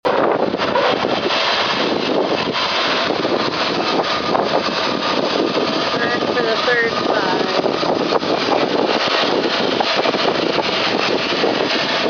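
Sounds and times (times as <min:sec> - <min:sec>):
sawmill running: 0:00.0 - 0:12.0.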